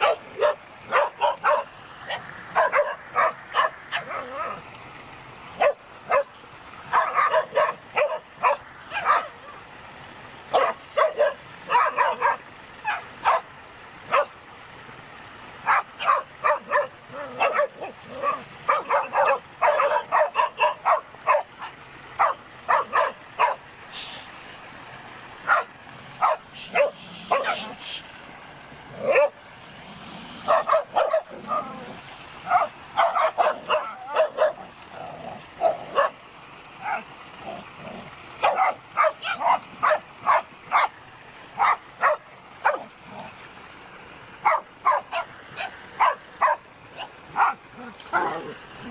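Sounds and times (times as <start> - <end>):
dogs barking: 0.0 - 4.6, 5.6 - 9.6, 10.5 - 14.4, 15.6 - 23.7, 25.4 - 27.8, 28.9 - 29.5, 30.4 - 36.2, 36.8 - 41.0, 41.6 - 43.0, 44.4 - 48.9.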